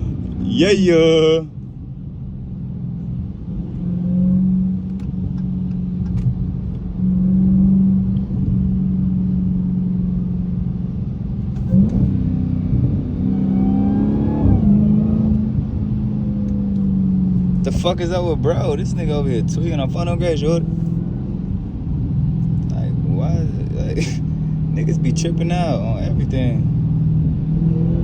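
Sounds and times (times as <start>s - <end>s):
car engine droning while driving: 0.0s - 28.0s.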